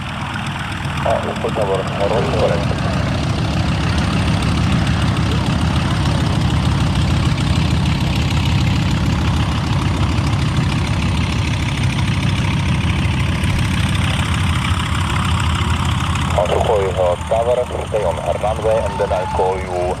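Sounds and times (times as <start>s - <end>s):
radial plane engine rumbling: 0.0s - 20.0s.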